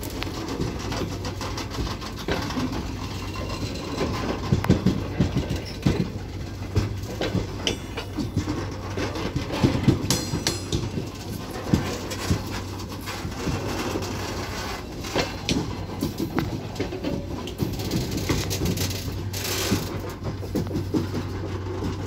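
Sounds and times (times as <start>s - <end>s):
low train rumble: 0.0s - 22.0s
wagon wheels clanking over rail joints: 0.0s - 22.0s.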